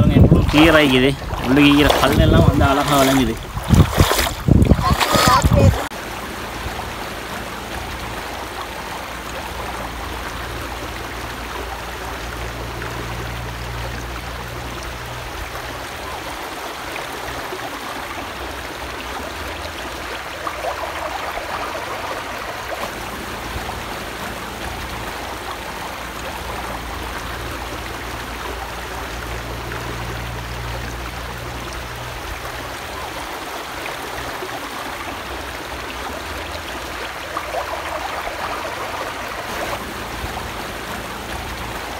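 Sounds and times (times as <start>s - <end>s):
river flowing over rocks: 0.7s - 41.9s.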